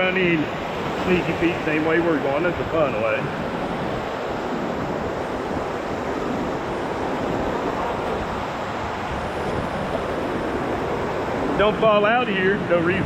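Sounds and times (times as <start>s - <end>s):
whitewater rapids rushing: 0.0s - 13.0s.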